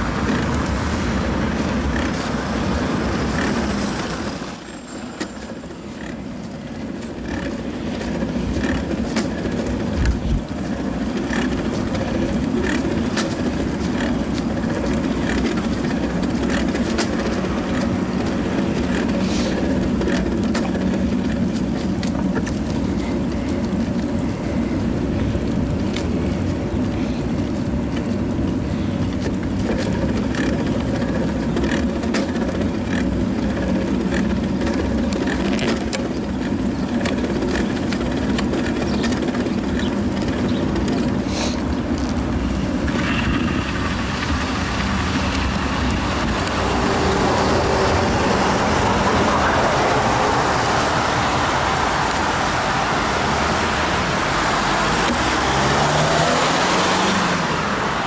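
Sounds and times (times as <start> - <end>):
bicycle clicks and rattles: 0.0 - 56.5
wind and road rumble: 0.0 - 58.0.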